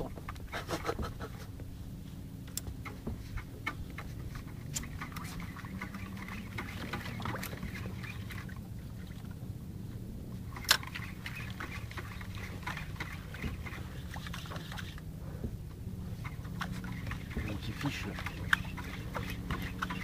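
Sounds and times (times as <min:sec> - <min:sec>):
steady low hum: 0:00.0 - 0:20.0
water sloshing against boat hull: 0:00.0 - 0:20.0.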